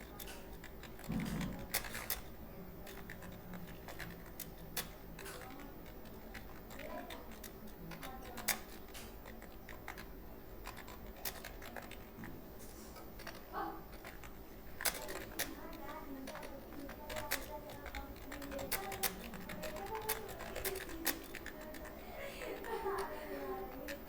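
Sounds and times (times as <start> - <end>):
computer keyboard clicks: 0.0 - 24.0.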